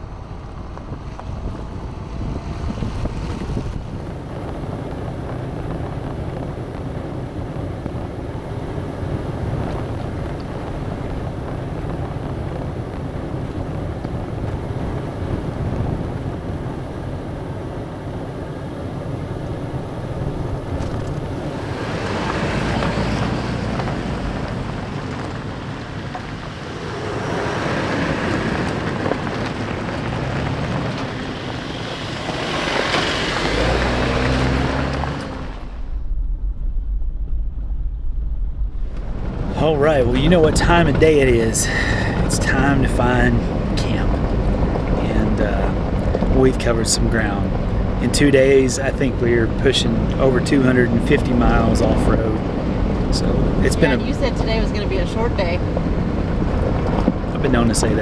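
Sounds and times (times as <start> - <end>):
vehicle engine and tyre noise: 0.0 - 58.0
vehicles rolling on gravel: 0.0 - 58.0
wind buffeting microphone: 0.0 - 58.0.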